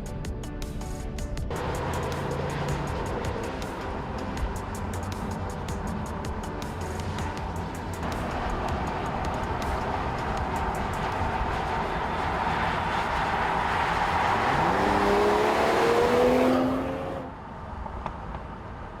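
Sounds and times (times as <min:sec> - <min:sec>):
road noise: 0:00.0 - 0:19.0
car engine running: 0:00.9 - 0:17.3.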